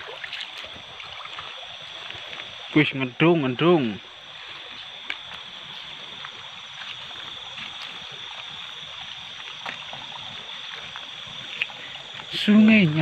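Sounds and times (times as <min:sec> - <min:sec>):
faint wading splashes: 0:00.0 - 0:13.0.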